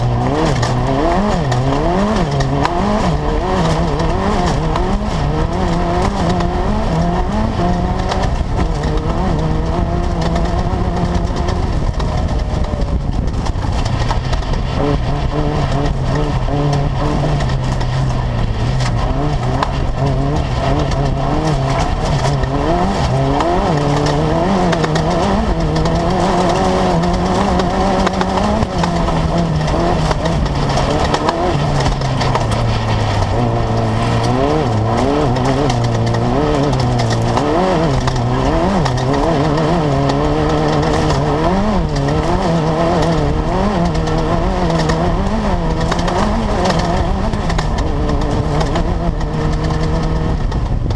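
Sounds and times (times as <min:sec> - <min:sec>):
race car engine running hard: 0:00.0 - 0:50.9.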